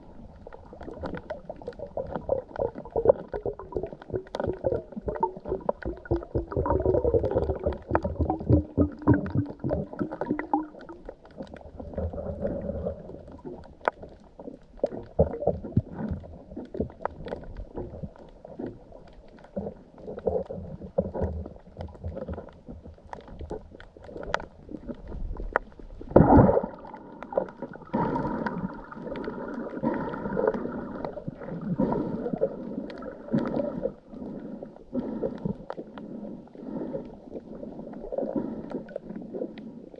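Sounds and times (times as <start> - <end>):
underwater gurgling and bubbling: 0.0 - 39.9.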